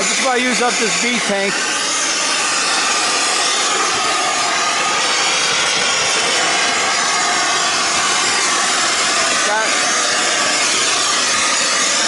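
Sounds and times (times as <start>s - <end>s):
torch burning with a hiss: 0.0s - 12.0s.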